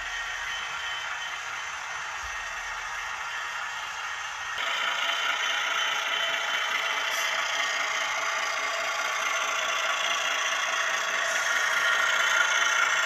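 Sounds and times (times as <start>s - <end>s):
model diesel locomotive running: 0.0s - 13.0s.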